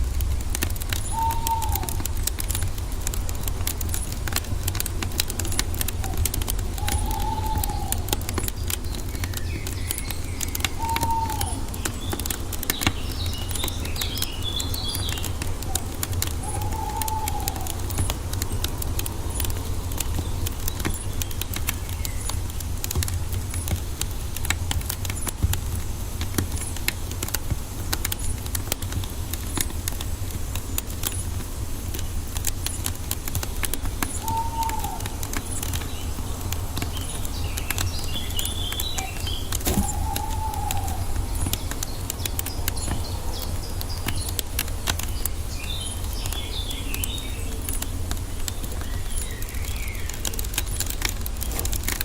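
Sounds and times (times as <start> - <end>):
wood fire crackling: 0.0 - 52.0
birds whistling and chirping: 0.3 - 3.0, 3.6 - 23.8, 32.0 - 51.7.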